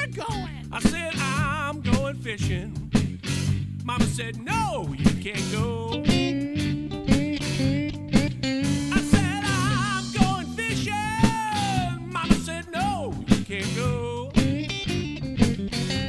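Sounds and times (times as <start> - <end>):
bending lead guitar line: 0.0 - 16.0
rock band playing: 0.0 - 16.0.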